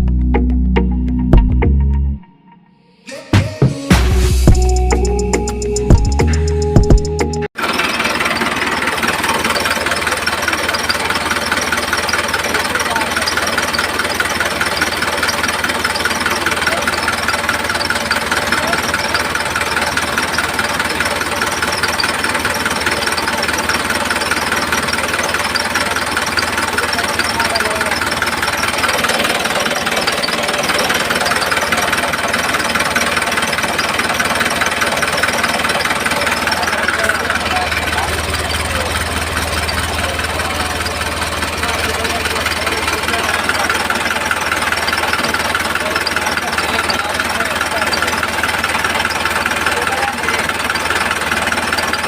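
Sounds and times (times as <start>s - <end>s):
small electric motor rattling: 7.6s - 52.0s.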